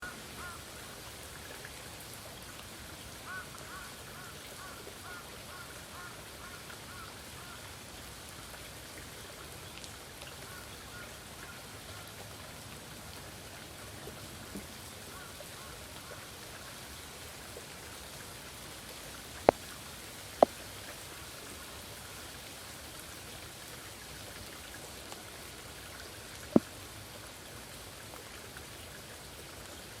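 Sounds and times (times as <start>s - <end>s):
stream water running: 0.0s - 30.0s.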